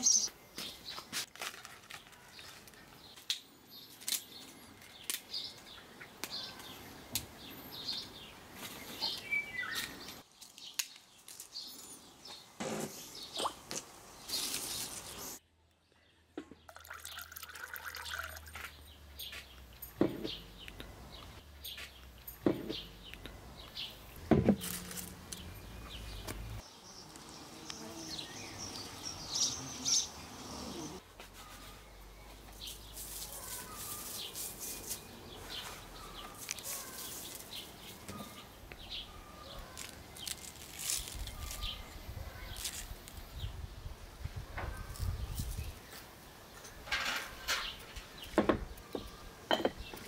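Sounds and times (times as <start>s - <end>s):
small birds chirping: 0.0s - 1.2s, 1.9s - 50.0s.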